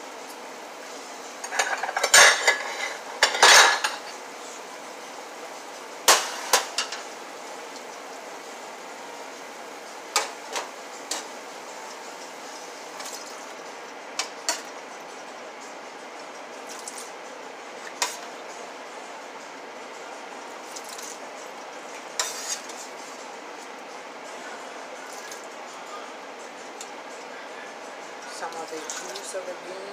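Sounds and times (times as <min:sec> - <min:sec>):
steady low hiss: 0:02.1 - 0:28.7.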